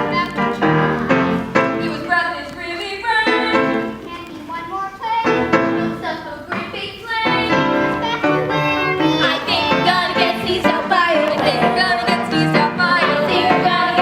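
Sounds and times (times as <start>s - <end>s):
instrumental accompaniment: 0.0s - 14.0s
young voices singing: 0.0s - 14.0s.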